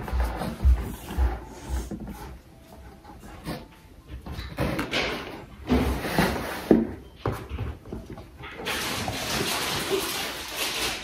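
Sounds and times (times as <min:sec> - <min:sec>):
clothes and packaging rustling: 0:00.0 - 0:11.0.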